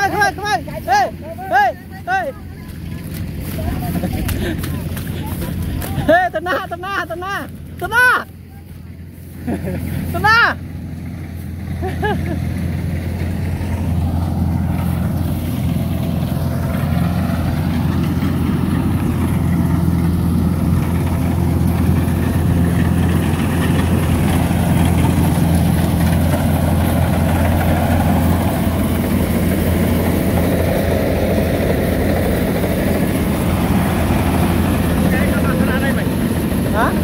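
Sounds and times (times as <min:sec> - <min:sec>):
combine harvester engine droning: 0:00.0 - 0:37.0.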